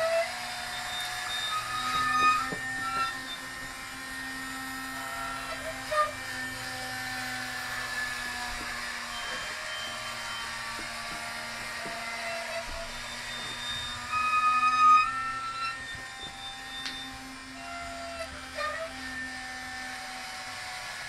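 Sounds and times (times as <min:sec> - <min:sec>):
rotisserie motor humming: 0:00.0 - 0:20.6.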